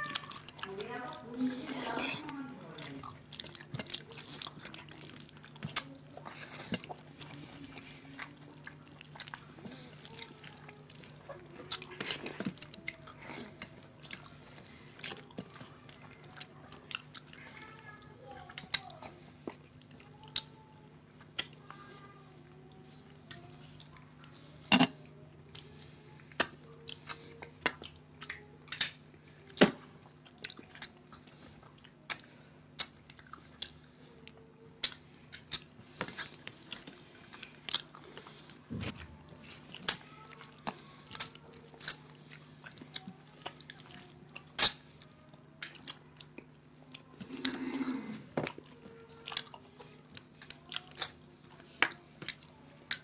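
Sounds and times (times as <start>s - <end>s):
wet chewing and mouth smacks: 0.0s - 53.0s.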